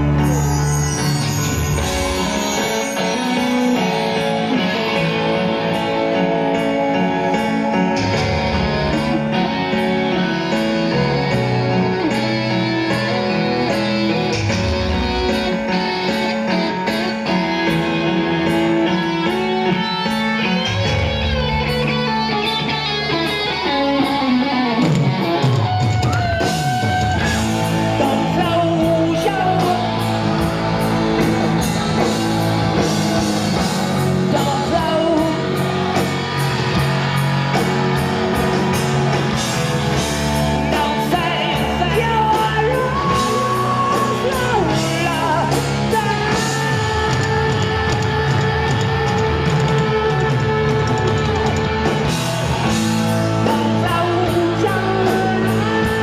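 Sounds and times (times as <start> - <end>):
electric guitar lead: 0.0 - 56.0
live rock band playing: 0.0 - 56.0.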